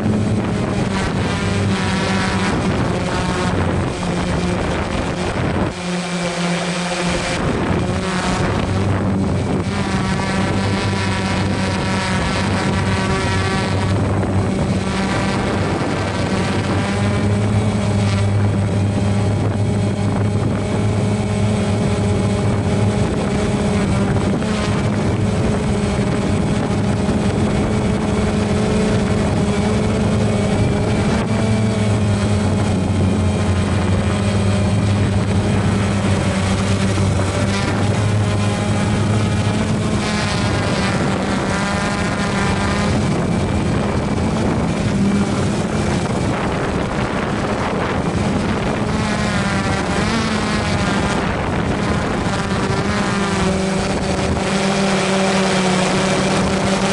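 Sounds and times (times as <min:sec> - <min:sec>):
drone propellers whirring: 0:00.0 - 0:56.9.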